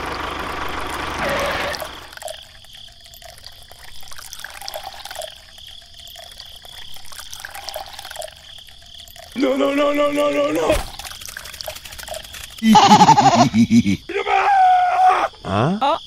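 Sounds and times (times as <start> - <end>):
water trickling and bubbling: 0.0 - 13.5.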